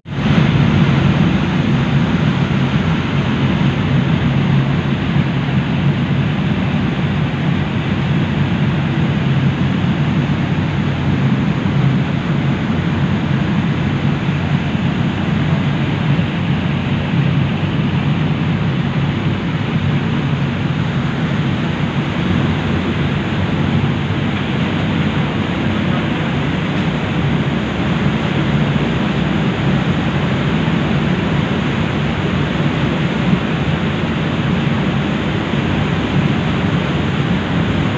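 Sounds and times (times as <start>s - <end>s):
ferry engines droning: 0.1s - 37.9s
water rushing in wake: 0.1s - 37.9s.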